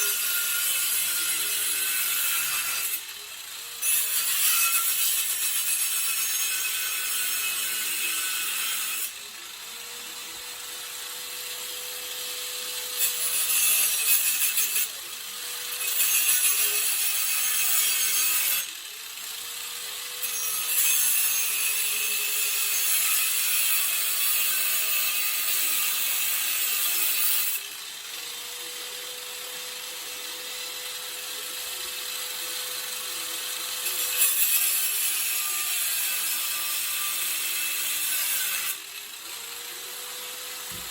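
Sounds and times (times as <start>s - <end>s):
angle grinder cutting metal: 0.0s - 40.9s.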